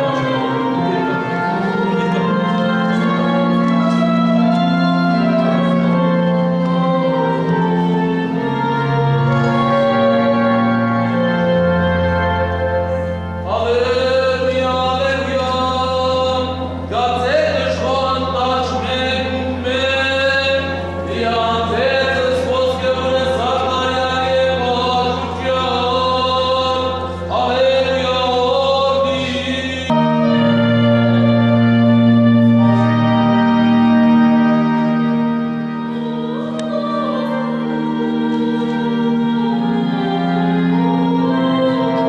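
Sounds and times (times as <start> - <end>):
congregation singing a hymn: 0.0 - 42.0
organ drone: 0.0 - 42.0.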